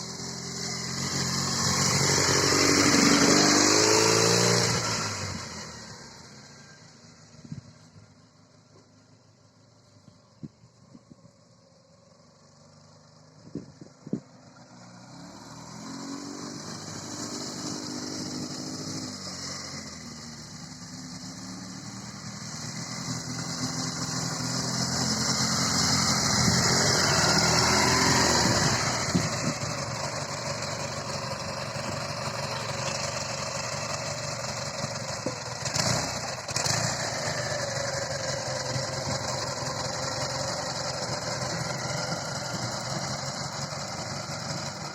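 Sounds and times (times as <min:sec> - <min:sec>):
motorcycle engine revving: 0:00.0 - 0:06.8, 0:13.5 - 0:44.9.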